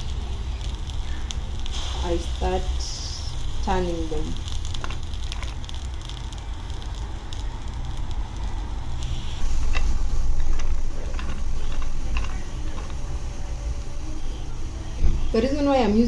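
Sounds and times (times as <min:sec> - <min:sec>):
peanuts rattling in frying pan: 0:00.0 - 0:14.7.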